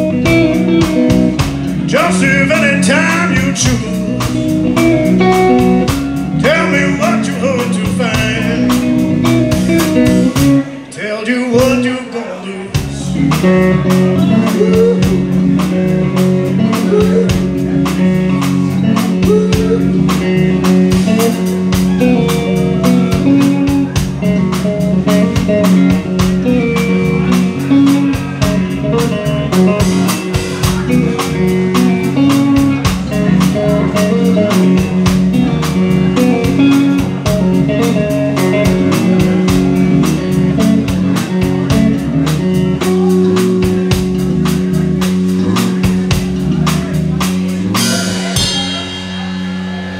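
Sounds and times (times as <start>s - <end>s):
drum kit: 0.0s - 49.9s
electric bass: 0.0s - 49.9s
electric guitar: 0.0s - 49.9s.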